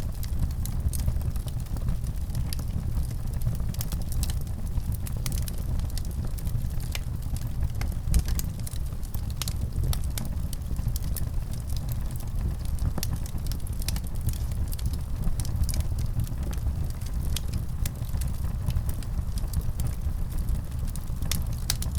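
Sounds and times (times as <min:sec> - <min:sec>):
fire crackling with pops: 0:00.0 - 0:21.9
rumble of flames: 0:00.0 - 0:21.9.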